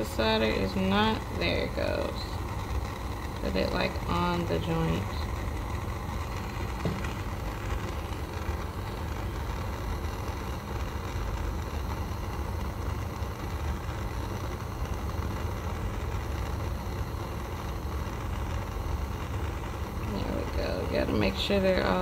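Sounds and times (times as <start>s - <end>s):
butane torch hissing: 0.0s - 22.0s.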